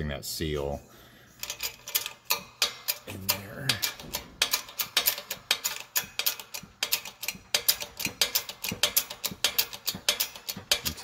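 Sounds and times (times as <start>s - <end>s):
ratchet clicking: 1.4s - 11.0s.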